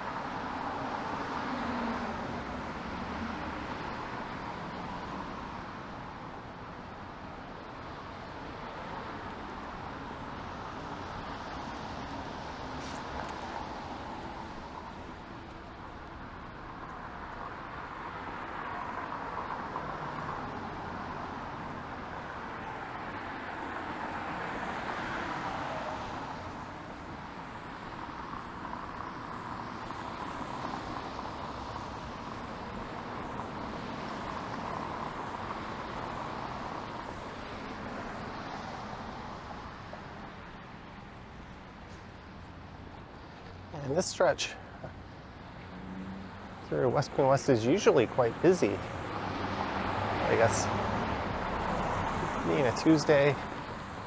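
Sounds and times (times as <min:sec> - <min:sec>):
cars passing on wet pavement: 0:00.0 - 0:54.0.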